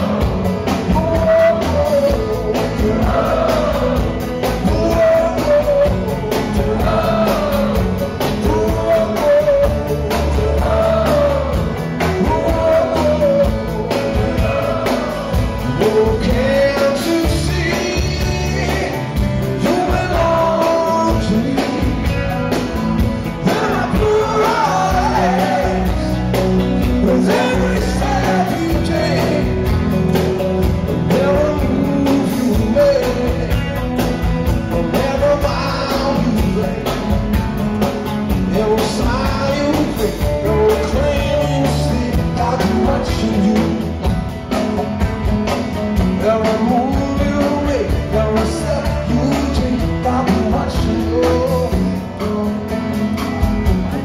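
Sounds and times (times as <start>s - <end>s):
drums: 0.0s - 54.0s
electric and acoustic guitars: 0.0s - 54.0s
electric bass: 0.0s - 54.0s.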